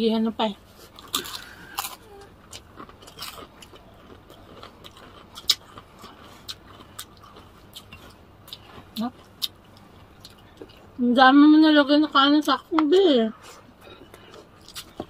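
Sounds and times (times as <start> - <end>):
people chewing crispy food: 0.7 - 12.7, 13.3 - 15.0.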